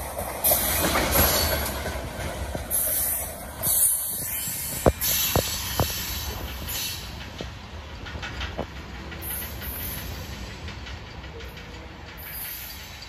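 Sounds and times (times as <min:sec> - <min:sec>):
train wheels clacking over rail joints: 0:00.0 - 0:13.0.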